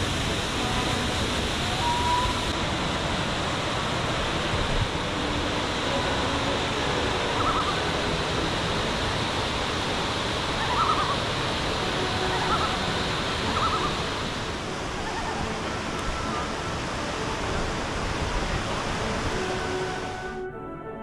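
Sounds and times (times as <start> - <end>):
water rushing over rocks: 0.0 - 20.4.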